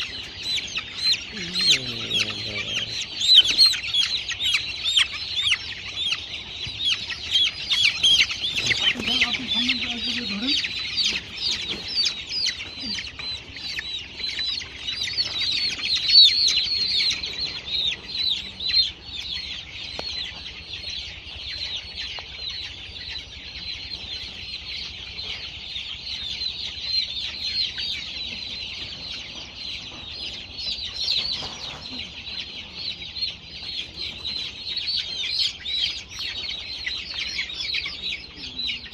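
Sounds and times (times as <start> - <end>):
chickens calling: 0.0 - 38.9.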